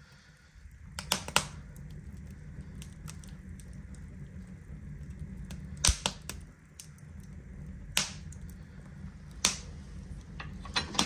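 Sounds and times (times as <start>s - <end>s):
low steady hum: 0.0s - 11.0s
wood fire crackling and popping: 0.0s - 11.0s.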